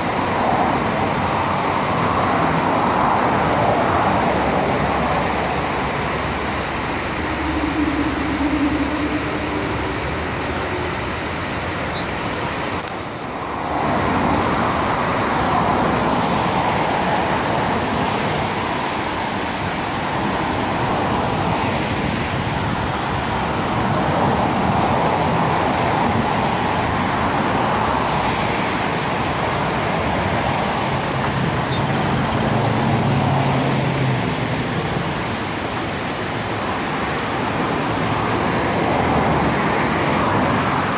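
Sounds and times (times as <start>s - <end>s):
river water rushing over weir: 0.0s - 40.9s
road traffic hum: 0.0s - 40.9s.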